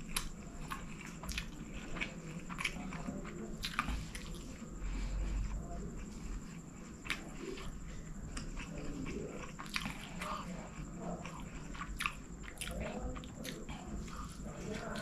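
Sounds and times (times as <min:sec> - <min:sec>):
man chewing with lips closed: 0:00.0 - 0:15.0.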